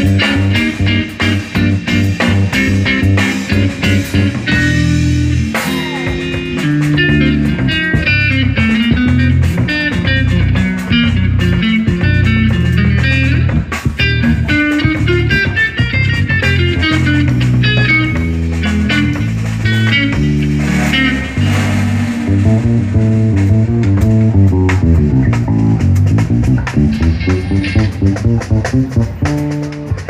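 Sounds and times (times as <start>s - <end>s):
drums keeping time: 0.0s - 30.0s
electric guitar picking notes: 0.0s - 30.0s
moving bass line: 0.0s - 30.0s.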